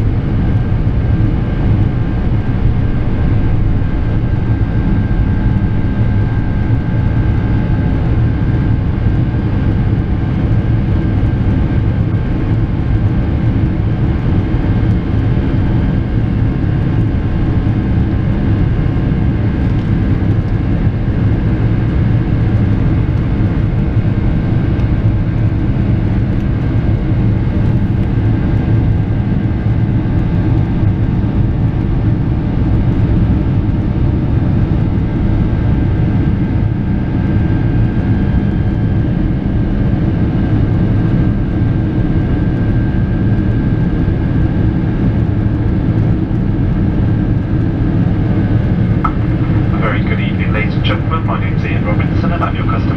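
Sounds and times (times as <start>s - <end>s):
airliner engines rumbling: 0.0s - 52.9s.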